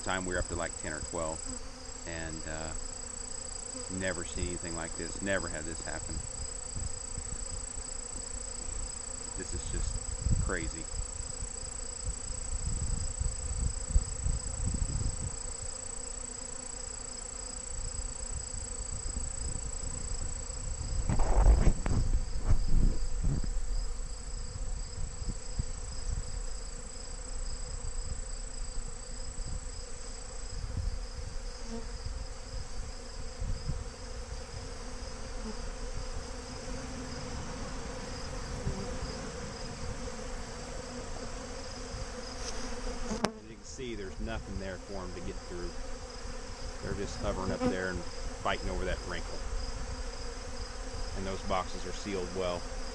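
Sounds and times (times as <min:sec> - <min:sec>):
bees buzzing: 0:00.0 - 0:52.9.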